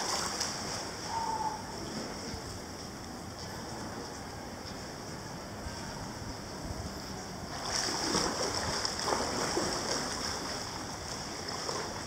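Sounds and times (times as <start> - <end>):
indoor pool hall hum: 0.0 - 12.0
pool water splashing and lapping: 0.0 - 12.0.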